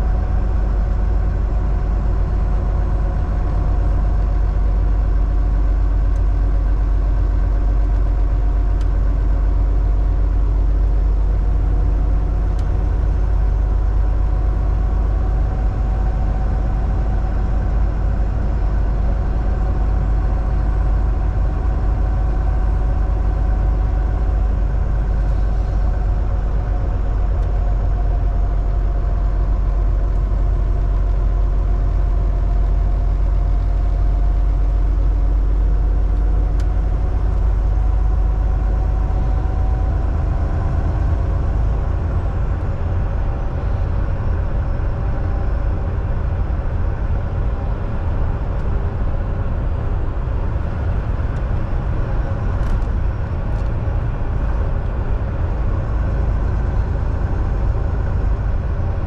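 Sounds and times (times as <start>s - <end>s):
low road rumble: 0.0s - 59.0s
truck diesel engine droning: 0.0s - 59.0s.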